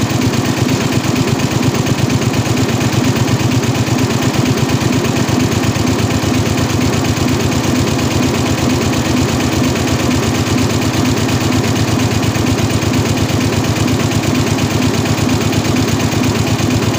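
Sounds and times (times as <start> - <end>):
embroidery machine clatter: 0.0 - 16.9.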